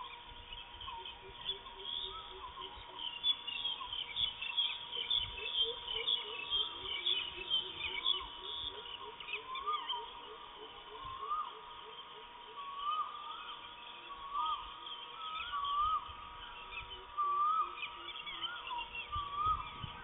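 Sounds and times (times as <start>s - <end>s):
faint steady whine: 0.0s - 20.0s
wild birds chirping: 0.0s - 20.0s.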